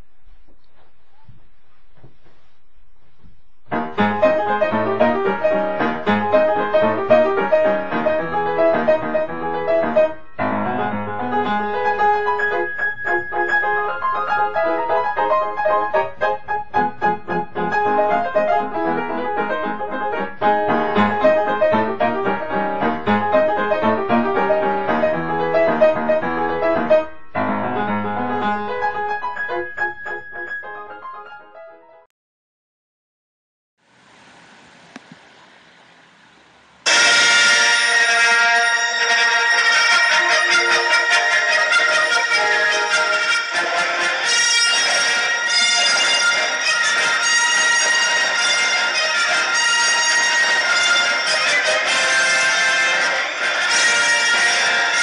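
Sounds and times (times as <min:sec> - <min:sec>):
piano music: 0:03.7 - 0:32.1, 0:36.9 - 0:55.0.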